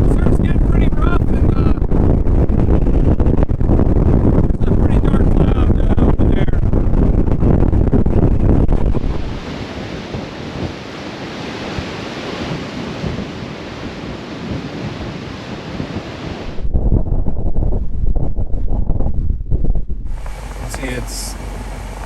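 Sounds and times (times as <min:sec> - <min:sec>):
storm surf breaking: 0:00.0 - 0:17.8, 0:20.1 - 0:22.0
wind rumbling on microphone: 0:00.0 - 0:22.0.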